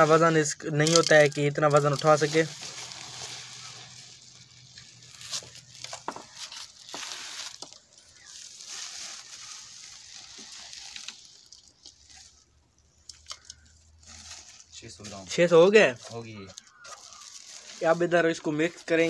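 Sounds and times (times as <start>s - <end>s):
plastic sacks rustling and crinkling: 0.0s - 19.0s.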